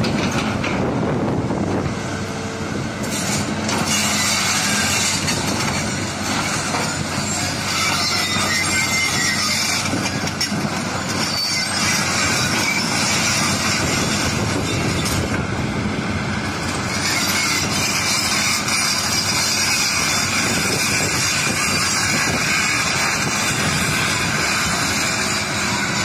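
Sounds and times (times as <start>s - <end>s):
excavator diesel engine under load: 0.0s - 26.0s
high metallic hiss and squeal: 3.0s - 15.4s, 16.6s - 26.0s.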